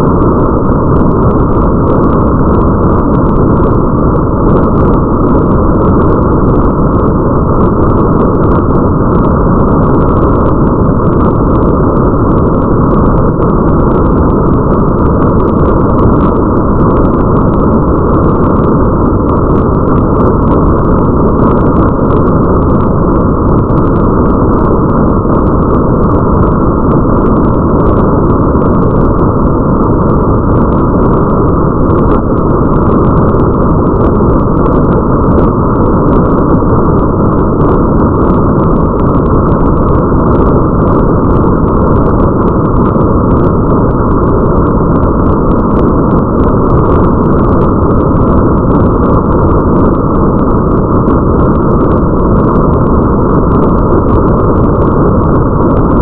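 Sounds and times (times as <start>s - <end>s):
muffled rain rumble: 0.0s - 56.0s.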